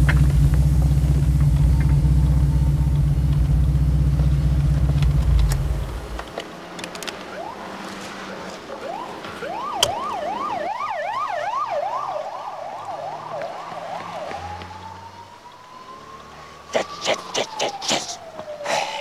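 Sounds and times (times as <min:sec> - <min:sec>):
police siren yelp and wail: 0:00.0 - 0:06.2, 0:07.0 - 0:19.0.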